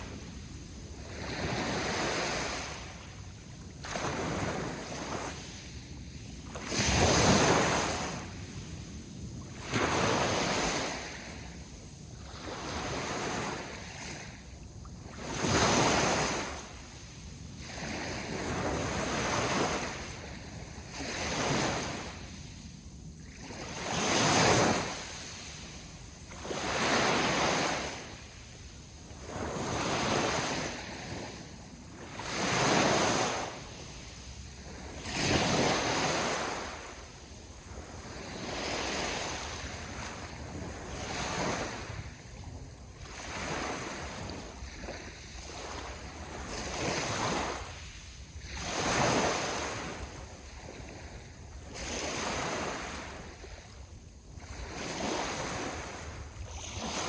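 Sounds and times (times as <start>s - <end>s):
ocean waves washing ashore: 0.0s - 57.0s.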